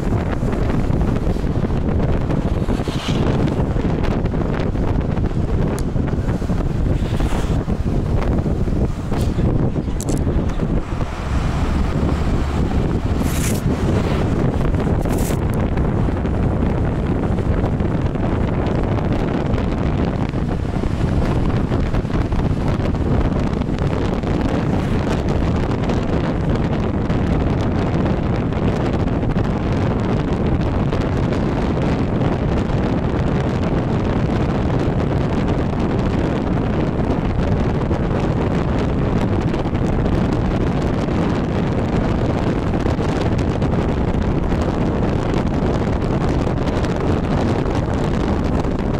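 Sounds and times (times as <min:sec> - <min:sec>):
bus road and engine noise: 0:00.0 - 0:48.9
wind buffeting microphone: 0:00.0 - 0:48.9.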